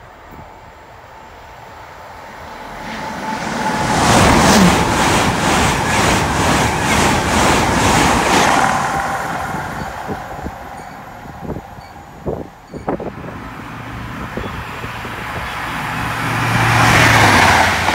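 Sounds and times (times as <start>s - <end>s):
train passing at speed: 0.0s - 17.9s
train wheels beating: 2.8s - 17.9s.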